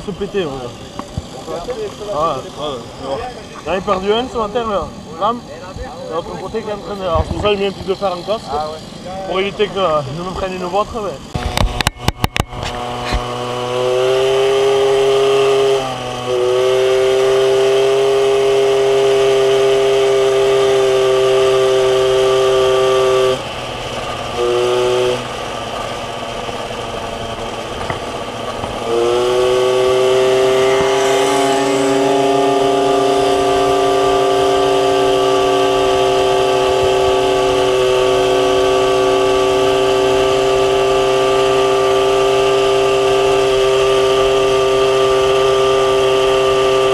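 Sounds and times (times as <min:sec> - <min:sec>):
moped engine revving: 0:00.0 - 0:46.9.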